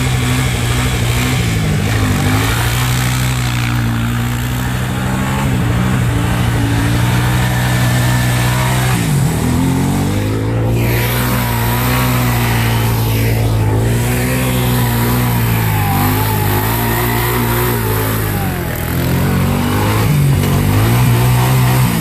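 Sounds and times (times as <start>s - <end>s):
small petrol engine running: 0.0s - 22.0s.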